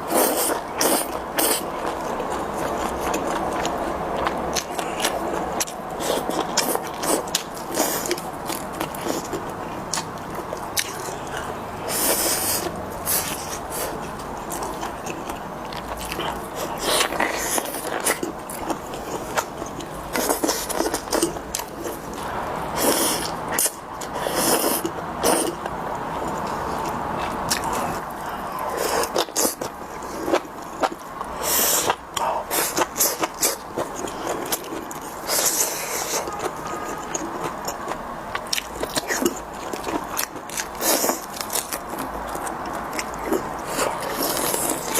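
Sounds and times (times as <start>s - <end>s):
chewing and crunching: 0.0s - 44.9s.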